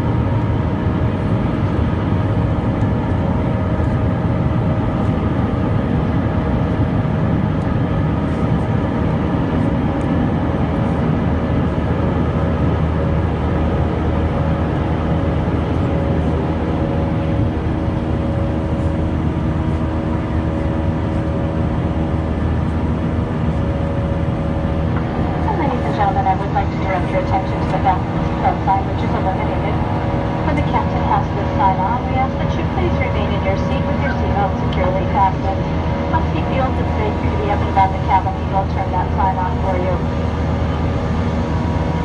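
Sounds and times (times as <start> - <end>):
jet engine cabin rumble: 0.0 - 42.0
multi-tone engine hum: 0.0 - 42.0.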